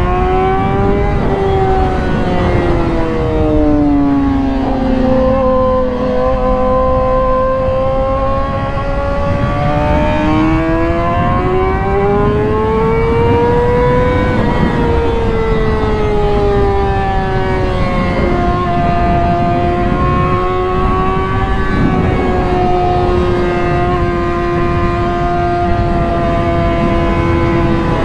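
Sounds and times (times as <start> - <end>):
motorcycle engine on track: 0.0 - 28.0.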